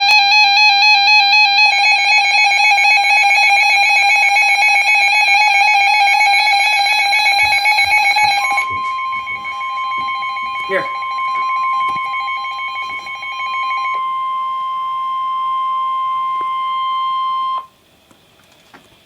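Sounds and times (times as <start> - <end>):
warbling radio alarms: 0.0 - 17.7
steady warning tone: 0.0 - 17.8.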